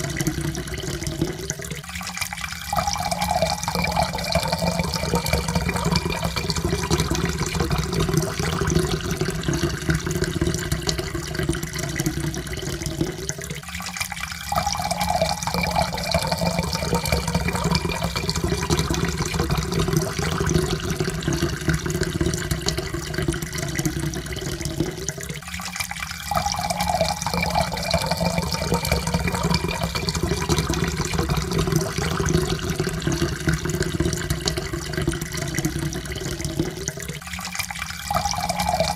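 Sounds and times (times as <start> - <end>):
water pouring into a cup: 0.0 - 38.9.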